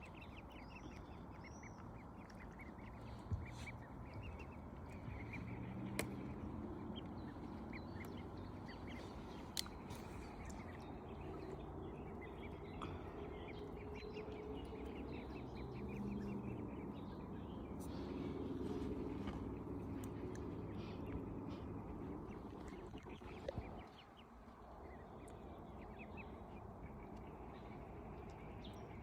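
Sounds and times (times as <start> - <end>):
ducks calling: 0.0 - 24.2
small birds chirping: 0.0 - 29.0.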